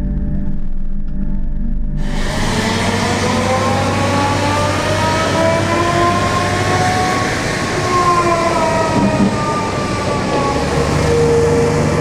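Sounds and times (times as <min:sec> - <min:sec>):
diesel engine running: 0:00.0 - 0:12.0
whine rising in pitch: 0:00.0 - 0:12.0.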